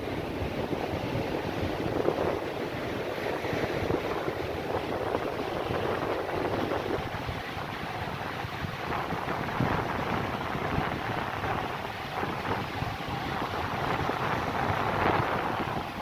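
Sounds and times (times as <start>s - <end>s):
rough surf breaking: 0.0s - 16.0s
wind rumbling on microphone: 0.0s - 16.0s.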